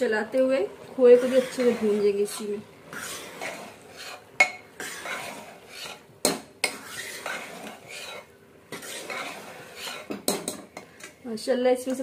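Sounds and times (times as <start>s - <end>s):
metal spatula scraping a pot: 1.0s - 11.2s.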